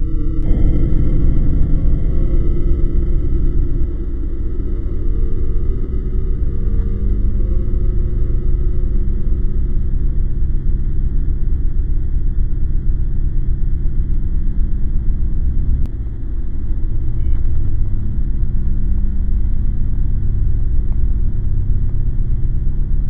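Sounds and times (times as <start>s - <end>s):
low rumble with droning hum: 0.0s - 23.0s.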